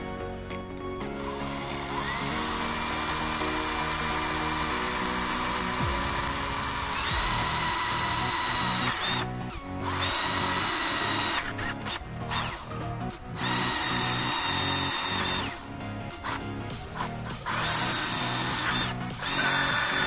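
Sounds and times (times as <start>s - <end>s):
background music: 0.0s - 20.0s
electric drill whining: 0.8s - 20.0s.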